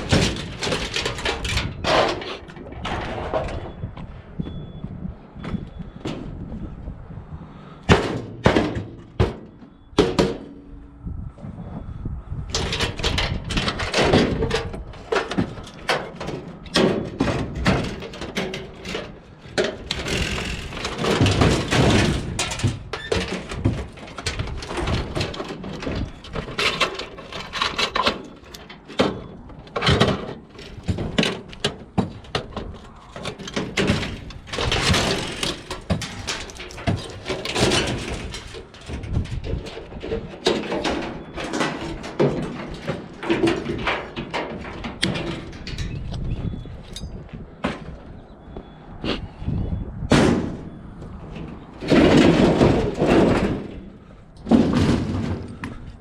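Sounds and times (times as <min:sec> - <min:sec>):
scrap metal clattering: 0:00.0 - 0:03.8, 0:12.5 - 0:48.0, 0:50.1 - 0:56.0.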